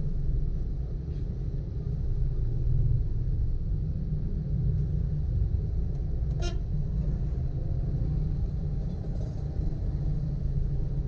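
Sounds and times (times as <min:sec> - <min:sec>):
car moving in traffic rumble: 0:00.0 - 0:11.0.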